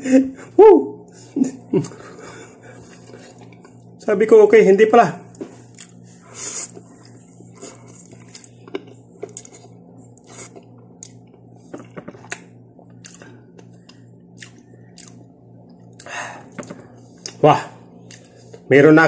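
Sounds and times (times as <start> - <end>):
steady low hum: 0.0 - 19.0
person chewing noodles: 1.7 - 4.0, 5.3 - 18.7.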